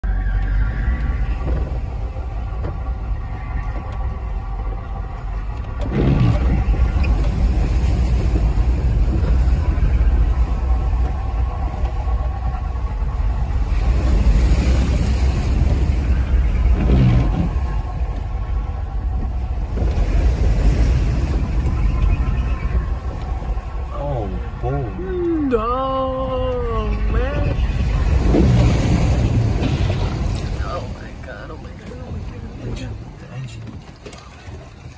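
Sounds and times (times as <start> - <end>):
engine and road rumble: 0.0 - 34.9.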